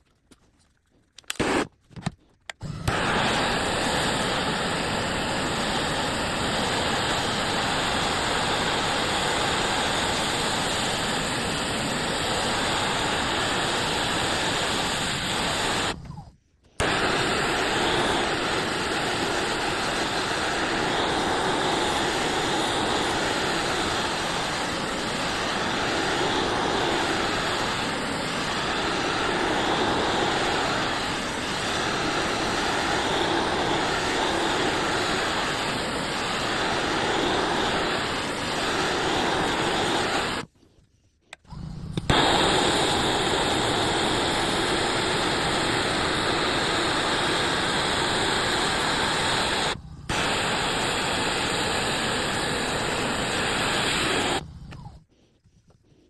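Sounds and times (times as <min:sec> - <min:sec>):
blowtorch flame hissing: 0:01.4 - 0:01.7, 0:02.6 - 0:16.2, 0:16.8 - 0:40.5, 0:41.6 - 0:54.6.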